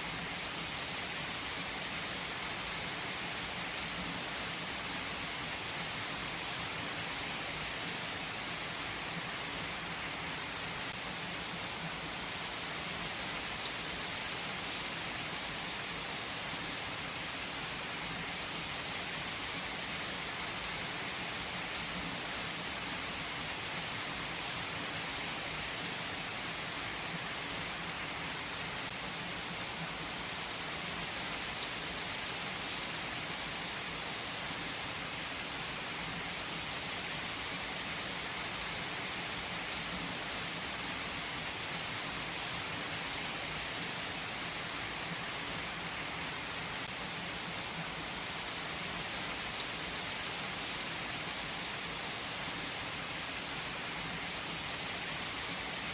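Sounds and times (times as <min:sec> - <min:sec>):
heavy rain falling on trees: 0:00.0 - 0:55.9.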